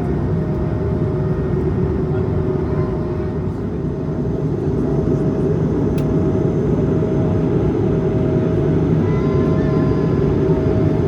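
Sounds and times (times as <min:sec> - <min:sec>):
constant cabin hum: 0:00.0 - 0:11.0
jet engine and airflow rumble: 0:00.0 - 0:11.0.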